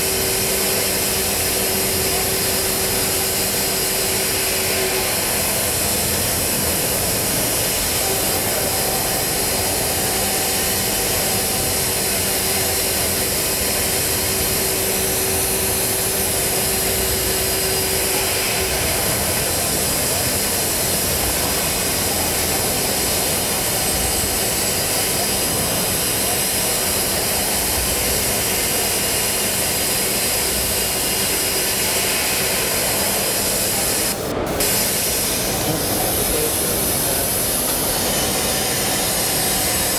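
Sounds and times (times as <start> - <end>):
machine hum: 0.0 - 39.9
milling machine cutting steel: 0.0 - 39.9.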